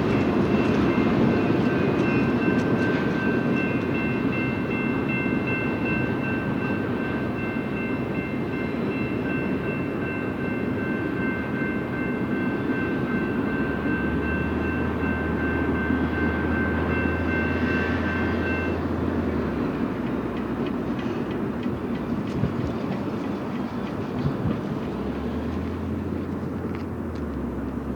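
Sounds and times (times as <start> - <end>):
freight train rumbling on rails: 0.0 - 27.9.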